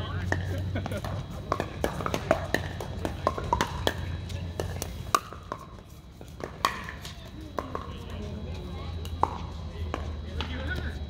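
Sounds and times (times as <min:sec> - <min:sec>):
paddles striking balls: 0:00.0 - 0:11.0.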